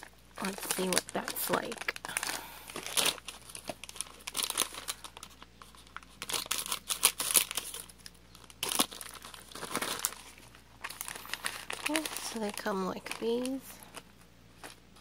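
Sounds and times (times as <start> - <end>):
snack packaging crinkling and tearing: 0.0 - 15.0.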